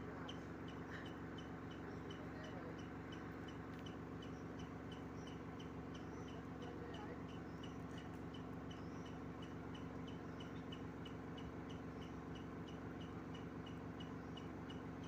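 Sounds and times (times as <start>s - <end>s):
steady low hum: 0.0s - 15.0s
bird chirping: 0.1s - 15.0s.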